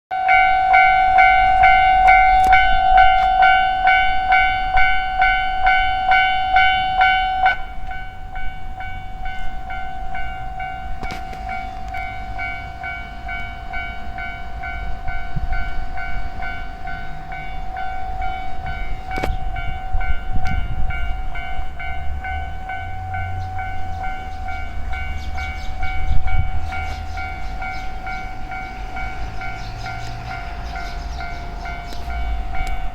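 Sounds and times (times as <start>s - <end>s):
level crossing warning bell: 0.1s - 32.9s
low train rumble: 0.1s - 32.9s.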